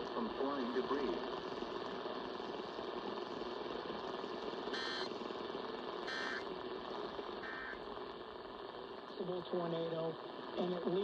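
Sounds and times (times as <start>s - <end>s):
radio hiss and hum: 0.0s - 11.0s.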